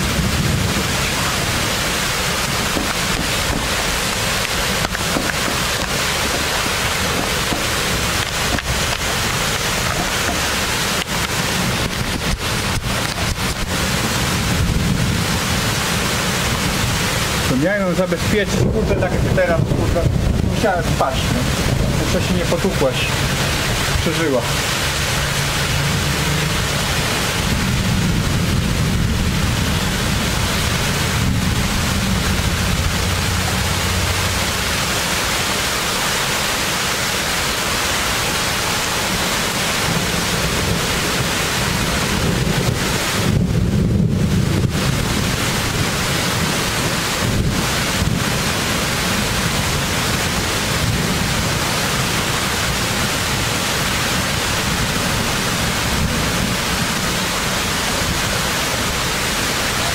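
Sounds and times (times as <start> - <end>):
low rolling thunder: 0.0 - 35.2, 39.0 - 59.0
heavy rain falling: 0.0 - 59.9.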